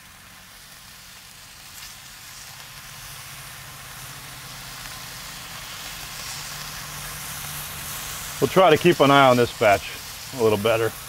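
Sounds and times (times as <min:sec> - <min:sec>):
bacon sizzling on griddle: 0:00.0 - 0:11.0.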